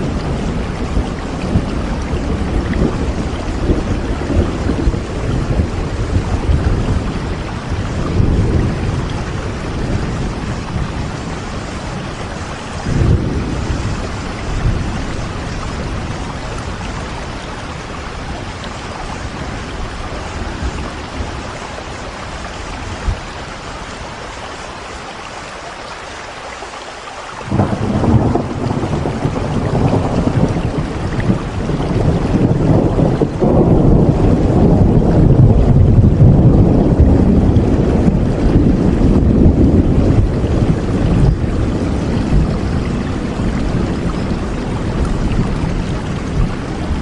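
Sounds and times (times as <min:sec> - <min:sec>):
rolling thunder: 0:00.0 - 0:24.1, 0:27.4 - 0:47.0
steady rain falling: 0:00.0 - 0:47.0.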